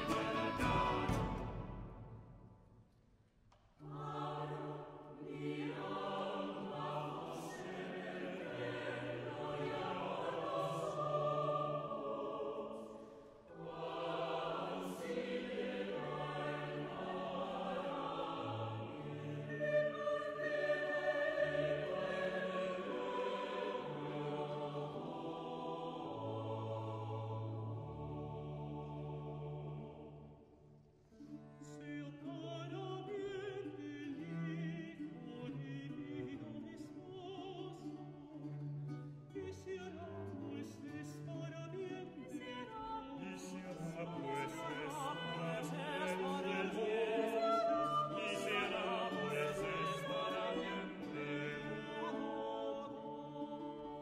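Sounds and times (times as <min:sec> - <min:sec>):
choir singing sacred music: 0:00.0 - 0:02.8, 0:03.7 - 0:54.0.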